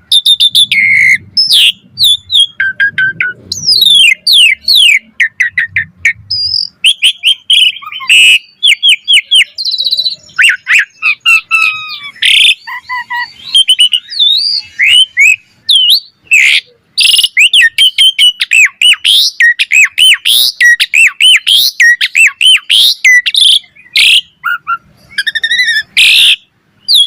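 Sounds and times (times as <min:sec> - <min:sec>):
starling singing: 0:00.0 - 0:27.0.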